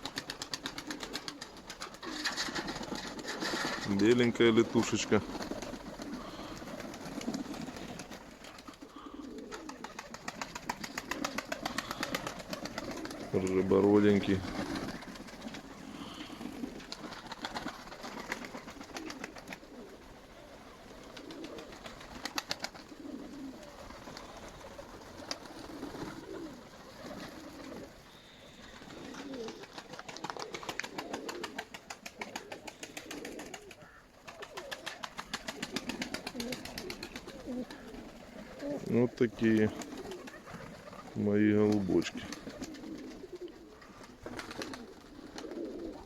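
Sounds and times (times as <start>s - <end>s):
pigeons cooing: 0.0s - 46.0s.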